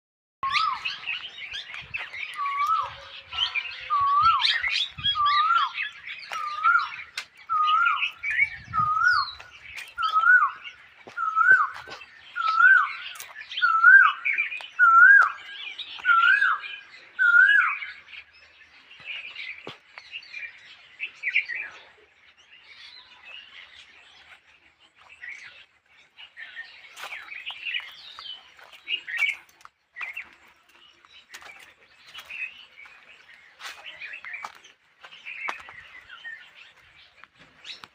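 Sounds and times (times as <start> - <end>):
small birds chirping: 0.4 - 37.9.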